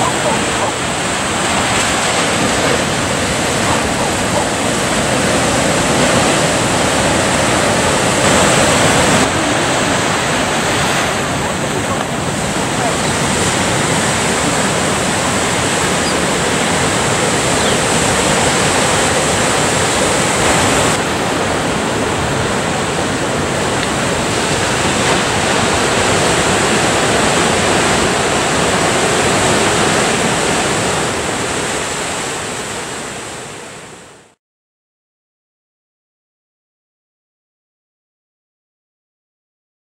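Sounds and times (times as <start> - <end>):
ocean waves breaking: 0.0 - 34.4.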